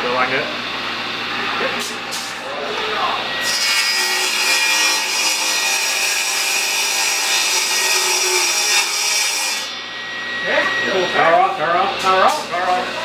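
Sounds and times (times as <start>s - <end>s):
power saw cutting wood: 1.8s - 13.0s.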